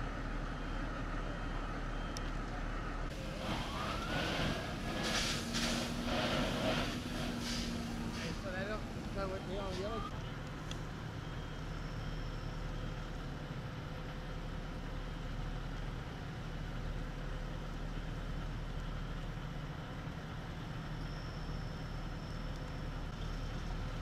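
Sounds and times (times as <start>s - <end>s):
fire engine running: 0.0s - 24.0s.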